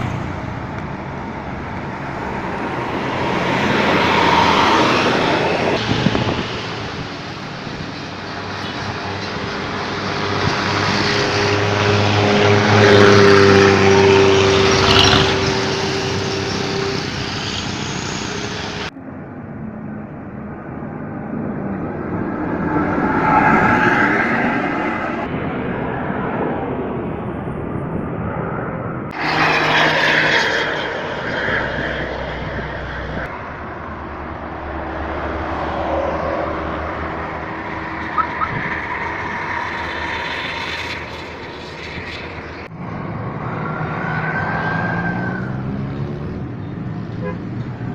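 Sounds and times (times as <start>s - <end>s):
diesel engine rumble: 0.0s - 23.0s, 25.2s - 47.9s.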